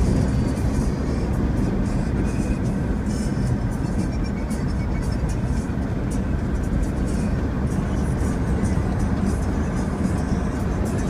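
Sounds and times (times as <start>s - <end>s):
road and engine noise inside car: 0.0s - 11.0s.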